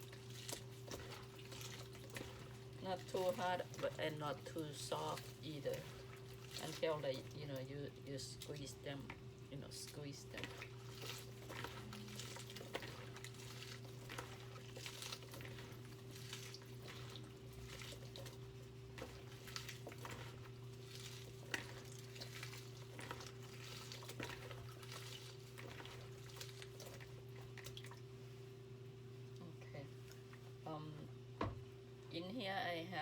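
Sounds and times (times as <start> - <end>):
water dripping and splashing: 0.0 - 28.4
wet squelching by hands: 0.0 - 28.4
steady low hum: 0.0 - 33.0.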